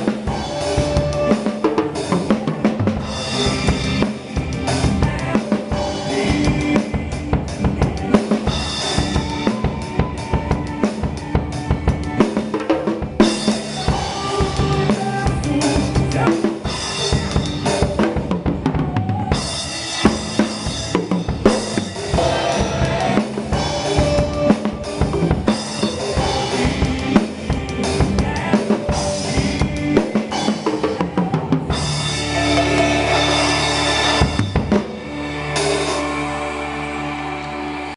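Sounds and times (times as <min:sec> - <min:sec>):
drum kit: 0:00.0 - 0:37.9
instrumental band music: 0:00.0 - 0:37.9.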